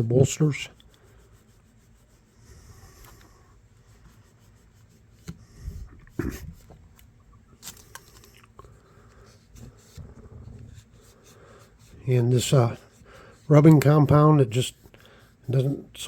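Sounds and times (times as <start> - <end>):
cloth rubbing on metal: 0.0 - 7.7, 8.8 - 16.0.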